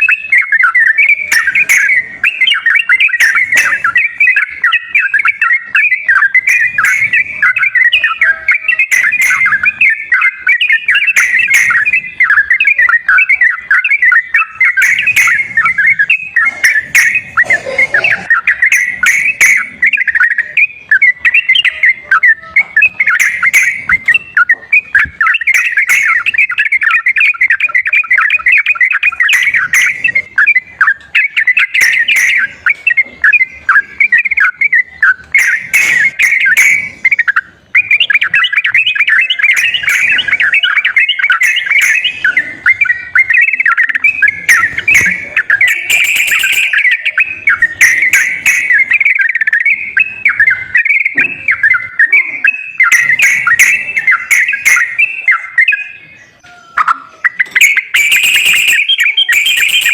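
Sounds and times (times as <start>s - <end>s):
bulbul chattering warble: 0.0s - 56.1s, 56.8s - 59.9s.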